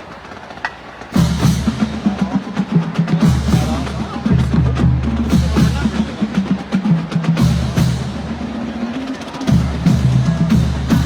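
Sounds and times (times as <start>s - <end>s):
marching band playing: 0.0s - 11.0s
snare and bass drums: 0.0s - 11.0s.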